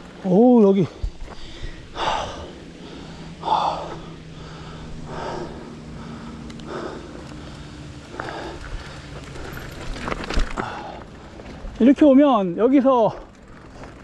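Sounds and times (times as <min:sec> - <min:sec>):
cyclist breathing hard: 0:00.8 - 0:11.8, 0:13.1 - 0:14.0.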